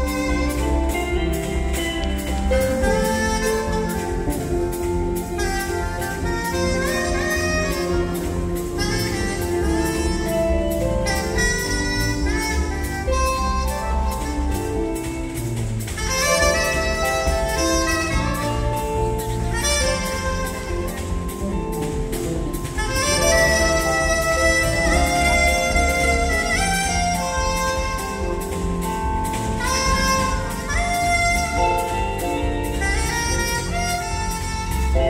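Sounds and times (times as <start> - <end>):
bowed violin melody: 0.0 - 35.0
jazz band playing: 0.0 - 35.0.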